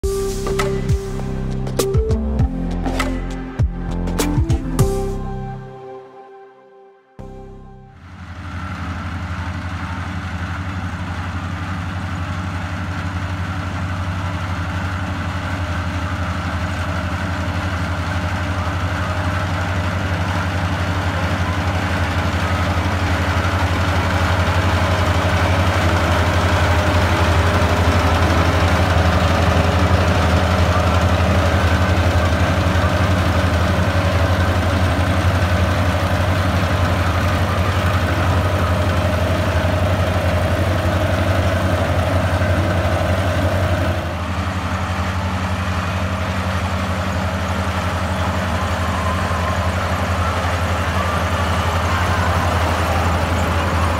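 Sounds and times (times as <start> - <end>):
combine harvester running: 0.0 - 5.8, 7.2 - 53.9.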